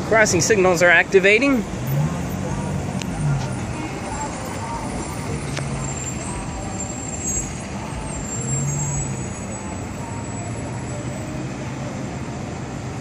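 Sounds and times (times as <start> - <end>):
engine and traffic rumble: 0.0 - 13.0.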